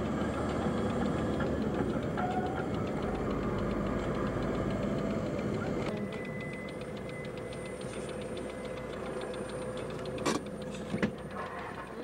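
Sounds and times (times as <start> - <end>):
car engine running: 0.0 - 12.0
faint ticking: 0.0 - 12.0.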